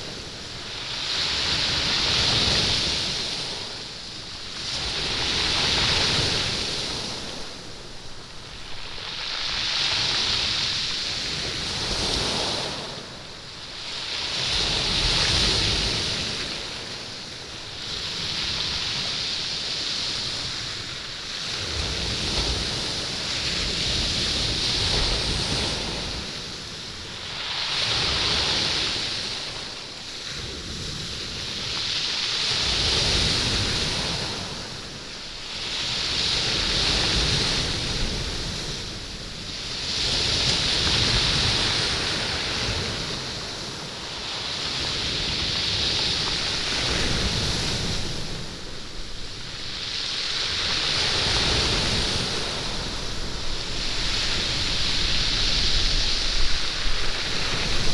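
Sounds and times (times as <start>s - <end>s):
waves washing over stony beach: 0.0s - 57.9s.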